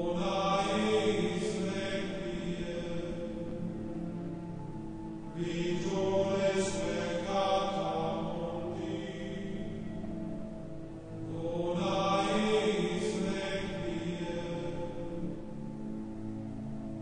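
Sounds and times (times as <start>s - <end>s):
chant-like swells: 0.0s - 17.0s
meditative drone music: 0.0s - 17.0s.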